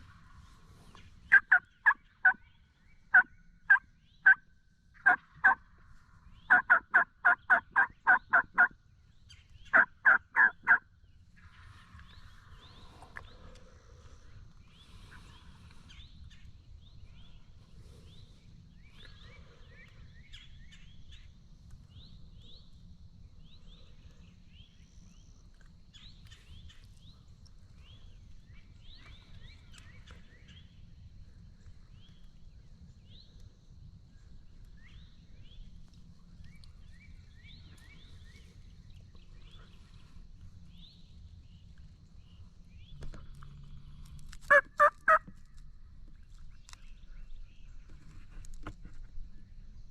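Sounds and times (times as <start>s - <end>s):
small birds chirping: 5.0s - 49.6s
low steady rumble: 7.1s - 48.5s.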